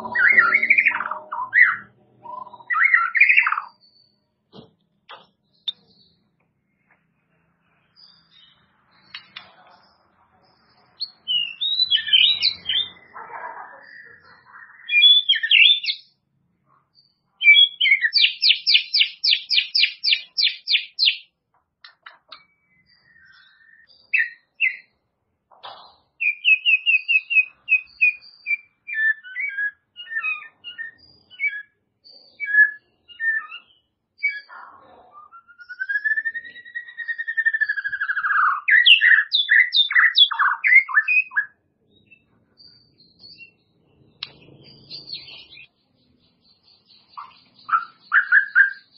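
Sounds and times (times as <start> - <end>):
bird singing varied song: 0.0 - 48.9.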